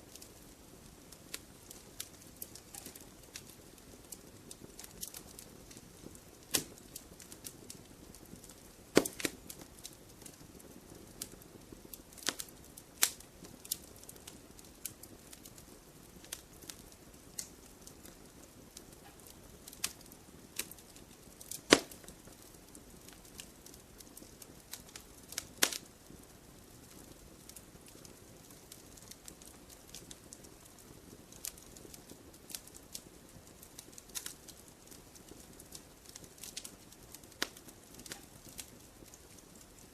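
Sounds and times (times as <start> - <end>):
campfire crackling: 0.0 - 39.9
soft low hiss: 0.0 - 39.9.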